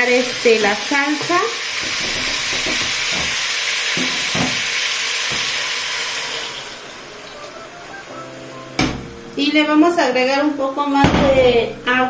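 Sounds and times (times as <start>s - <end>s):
food sizzling in hot fat: 0.0s - 10.7s.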